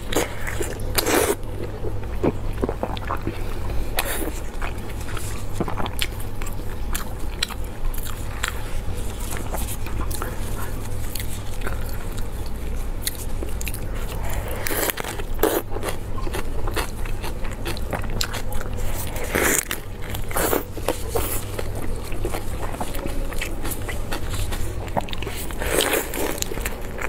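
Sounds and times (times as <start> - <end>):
wet chewing: 0.0 - 27.0.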